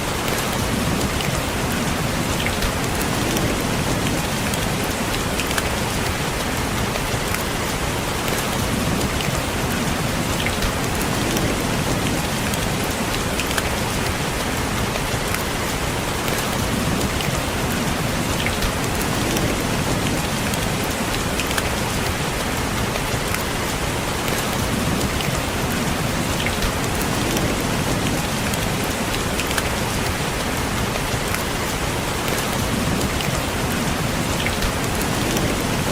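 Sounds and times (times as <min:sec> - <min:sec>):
steady rain: 0:00.0 - 0:35.9
raindrops ticking: 0:00.1 - 0:35.9.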